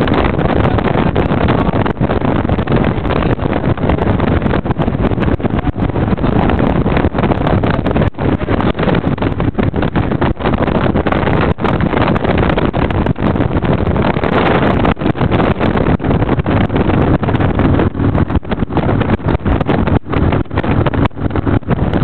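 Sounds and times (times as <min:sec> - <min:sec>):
road noise: 0:00.0 - 0:19.6
wind rushing over microphone: 0:00.0 - 0:22.0.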